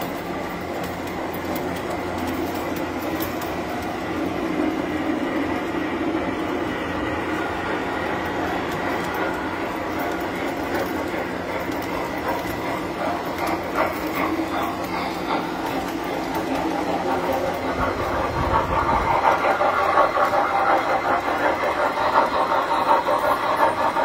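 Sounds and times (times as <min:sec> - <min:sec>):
metal wheels clattering on track: 0:00.0 - 0:24.0
toy train motors humming: 0:00.0 - 0:24.0.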